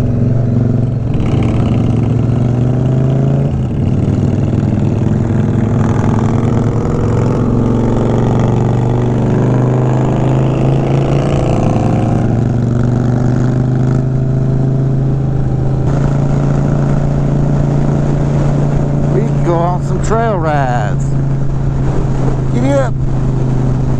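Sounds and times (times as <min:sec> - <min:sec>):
motorcycle engine cruising: 0:00.0 - 0:23.9.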